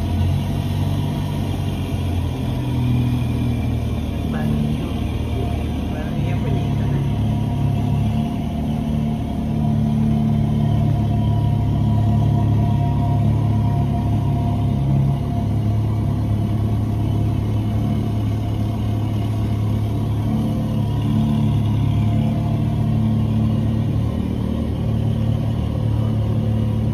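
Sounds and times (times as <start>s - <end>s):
motorcycle engine humming: 0.0s - 26.9s.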